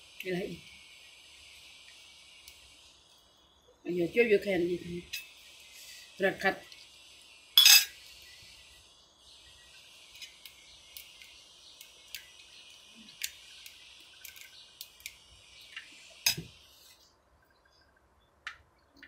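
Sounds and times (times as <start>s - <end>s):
high background hiss: 0.0s - 18.3s.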